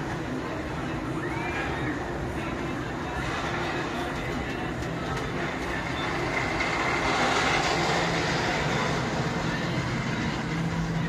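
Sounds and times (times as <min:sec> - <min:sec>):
fairground mechanical rumble: 0:00.0 - 0:11.0.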